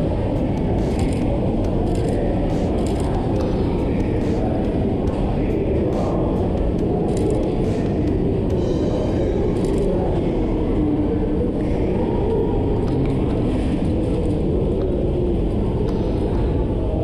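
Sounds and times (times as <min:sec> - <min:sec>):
low rumble echoing in passageway: 0:00.0 - 0:17.0.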